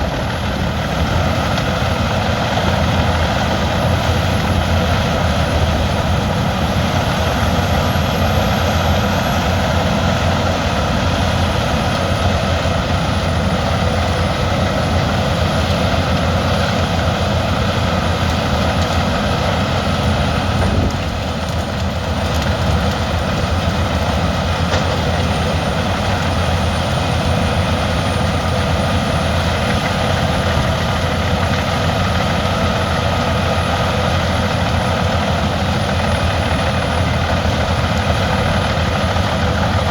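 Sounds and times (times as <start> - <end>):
wood chipper droning: 0.0 - 39.9.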